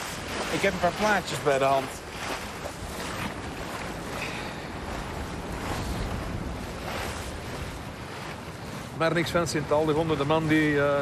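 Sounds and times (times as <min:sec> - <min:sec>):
water washing against hull: 0:00.0 - 0:11.0
wind rumbling on microphone: 0:00.0 - 0:11.0.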